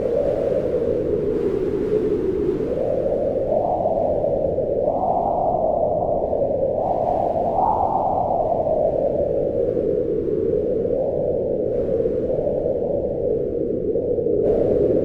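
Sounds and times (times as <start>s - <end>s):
strong wind howling: 0.0s - 15.0s.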